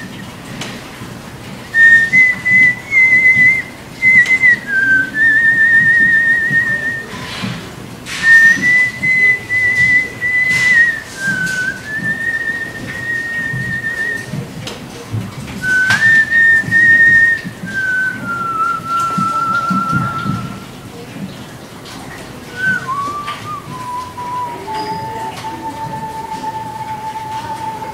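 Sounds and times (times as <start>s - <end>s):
man whistling: 1.6s - 7.4s, 8.1s - 14.5s, 15.6s - 20.8s, 22.5s - 27.9s.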